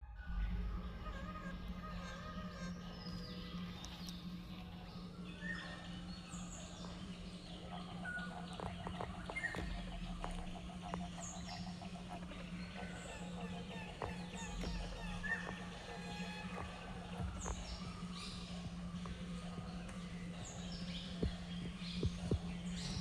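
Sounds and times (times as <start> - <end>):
steady low hum: 0.0 - 23.0
birds chirping and whistling: 0.2 - 23.0
rapid ticking bird calls: 1.0 - 23.0.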